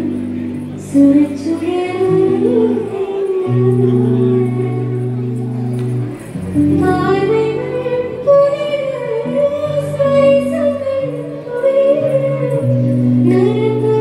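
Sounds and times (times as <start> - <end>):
live band with low notes: 0.0 - 14.0
woman singing into a microphone: 0.0 - 14.0.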